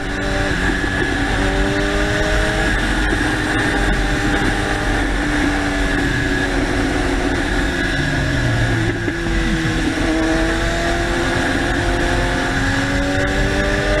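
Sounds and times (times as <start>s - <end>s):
motorcycle engine accelerating: 0.0s - 14.0s
wind noise: 0.0s - 14.0s.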